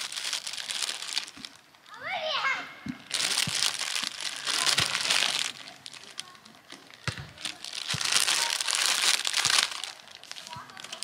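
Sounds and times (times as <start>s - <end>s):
plastic bag crinkling: 0.0s - 2.0s, 3.1s - 11.0s.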